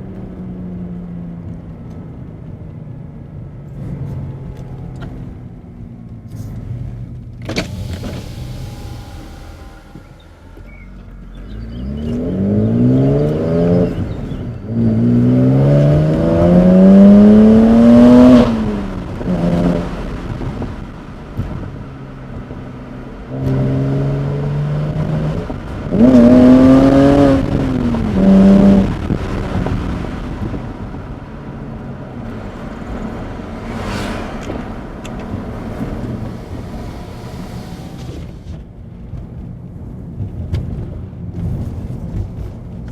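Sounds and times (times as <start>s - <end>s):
car engine revving: 3.7s - 42.9s.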